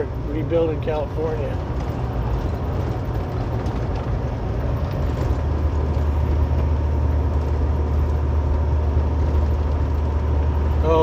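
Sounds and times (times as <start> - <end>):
engine and drivetrain drone: 0.0 - 11.0
tyres and wind rushing: 0.0 - 11.0.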